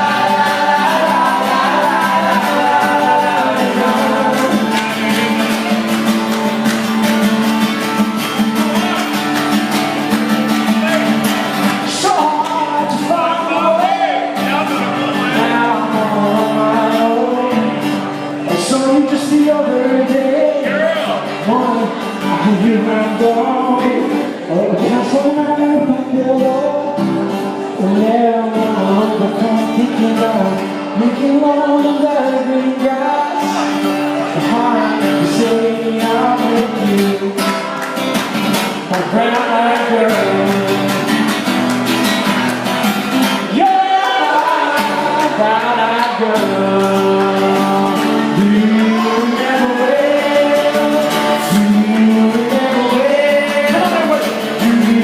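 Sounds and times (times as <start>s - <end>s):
men singing: 0.0s - 6.7s, 11.8s - 37.5s, 38.9s - 41.4s, 43.4s - 55.0s
guitar strumming: 0.0s - 55.0s.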